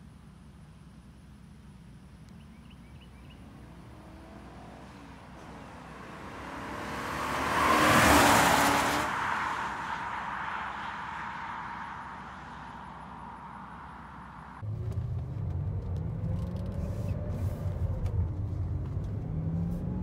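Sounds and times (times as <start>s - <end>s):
car driving past: 3.1s - 20.0s.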